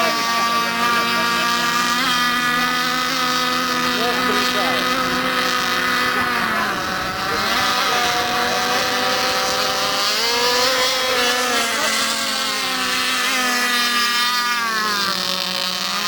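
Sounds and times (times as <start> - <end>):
model boat motors whining: 0.0 - 16.0.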